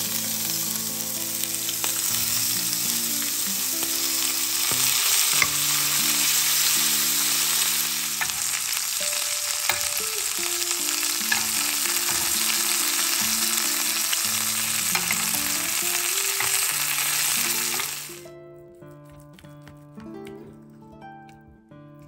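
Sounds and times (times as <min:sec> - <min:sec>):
butter sizzling in frying pan: 0:00.0 - 0:18.3.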